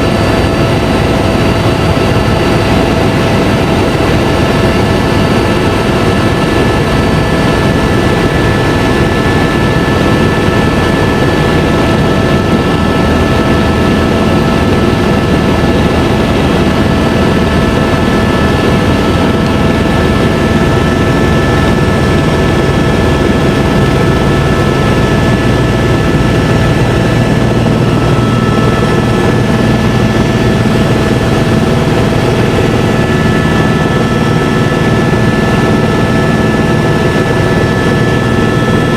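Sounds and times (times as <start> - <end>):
helicopter flying: 0.0 - 38.9.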